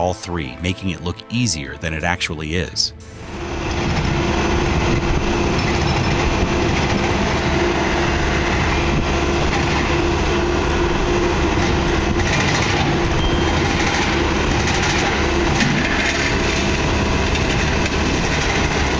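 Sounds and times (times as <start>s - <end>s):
diesel engine running: 3.0s - 18.9s.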